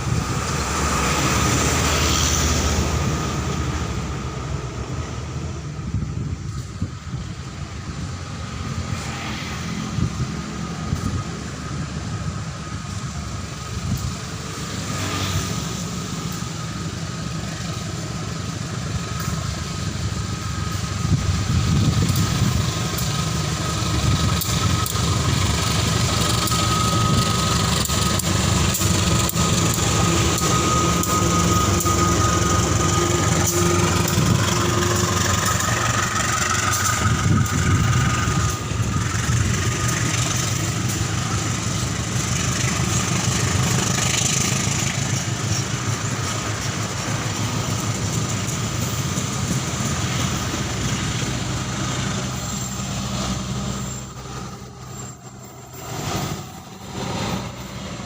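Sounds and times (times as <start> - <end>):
engine running with high whine: 0.0 - 58.0.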